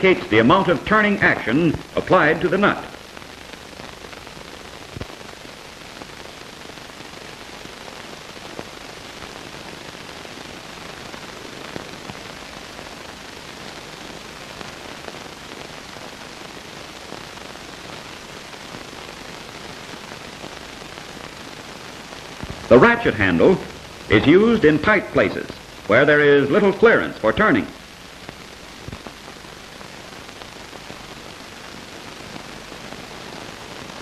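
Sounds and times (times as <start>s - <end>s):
faint clicks and crackles: 0.0s - 34.0s
film soundtrack hiss: 0.0s - 34.0s.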